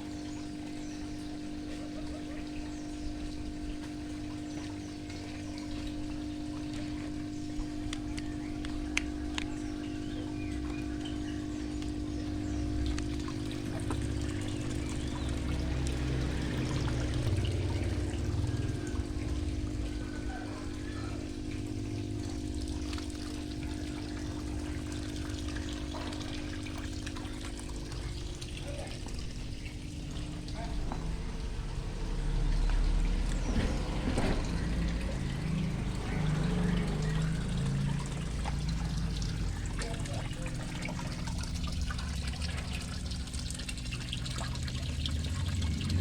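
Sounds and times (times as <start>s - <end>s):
electric water pump humming: 0.0s - 46.0s
water trickling and pouring: 0.0s - 46.0s.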